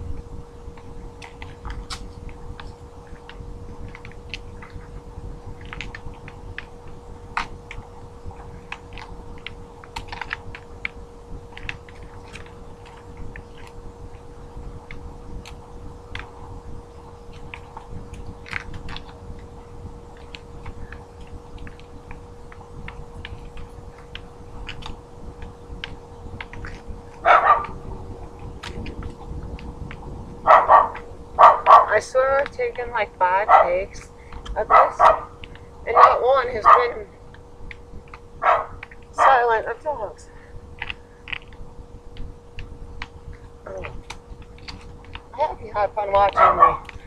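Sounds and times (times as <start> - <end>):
faint hum: 0.0 - 47.0.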